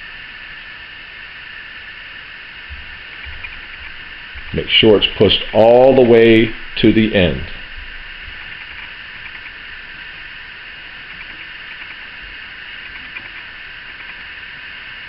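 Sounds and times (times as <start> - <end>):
high-pitched background hiss: 0.0 - 15.0.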